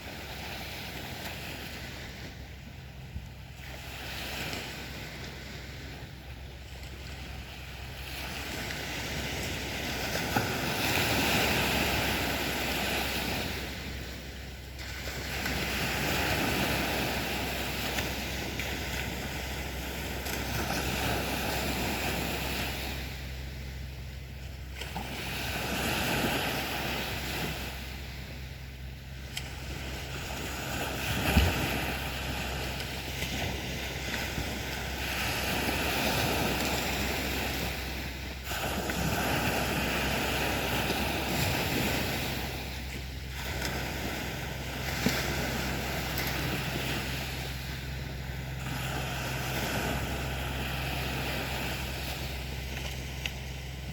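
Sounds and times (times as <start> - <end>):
waves breaking on beach: 0.0 - 53.9.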